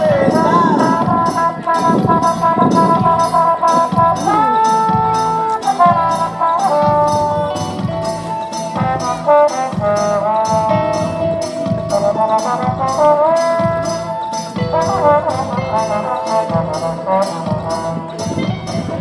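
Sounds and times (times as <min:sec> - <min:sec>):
background music with horn-like notes: 0:00.0 - 0:19.0.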